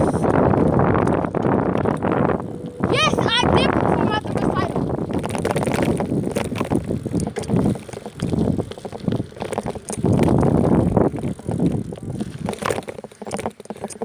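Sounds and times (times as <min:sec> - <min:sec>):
small rattles and knocks: 0:00.0 - 0:14.0
wind buffeting microphone: 0:00.0 - 0:14.0.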